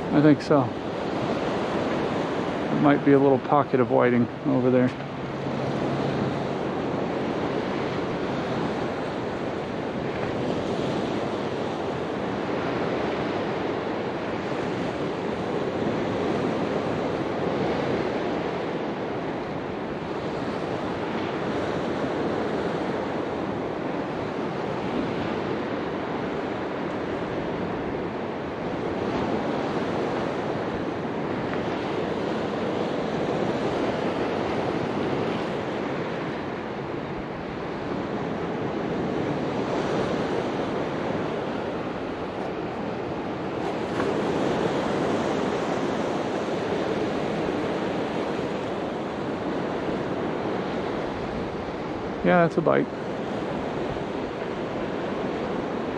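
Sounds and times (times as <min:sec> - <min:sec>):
ocean surf on beach: 0:00.0 - 0:55.9
wind on microphone: 0:00.0 - 0:55.9.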